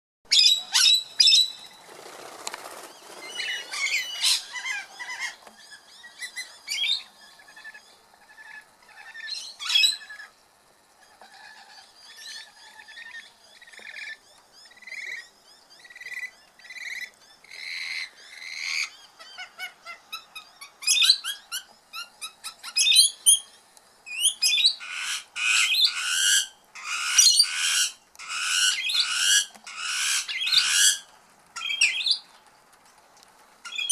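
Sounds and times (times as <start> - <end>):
birds calling and chirping: 0.3 - 32.7, 33.6 - 33.9.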